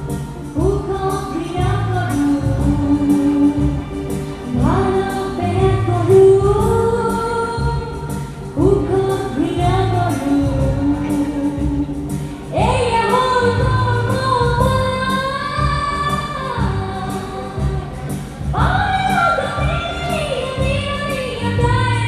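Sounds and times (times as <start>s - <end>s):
song with held sung notes: 0.0s - 22.0s.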